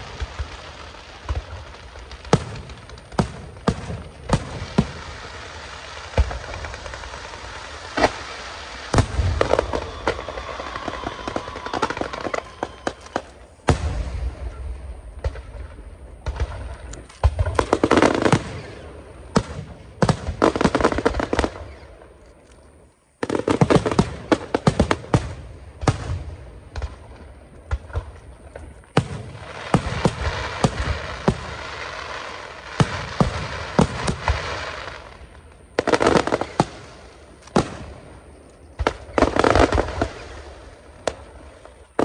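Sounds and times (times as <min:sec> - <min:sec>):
fireworks bangs and crackling: 0:00.0 - 0:42.0.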